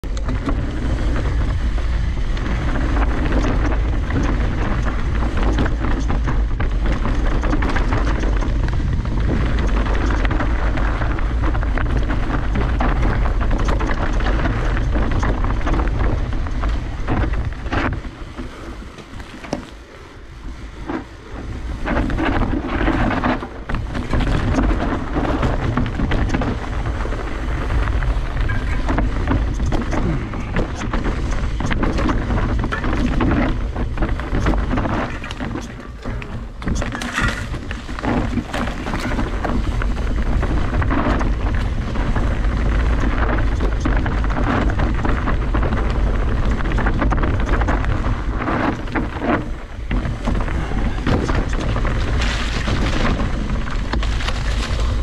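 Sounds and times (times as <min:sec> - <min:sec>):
bike rattling and knocking: 0:00.0 - 0:19.7, 0:20.8 - 0:55.0
bike tyres rolling: 0:00.0 - 0:55.0
wind buffeting microphone: 0:00.0 - 0:55.0.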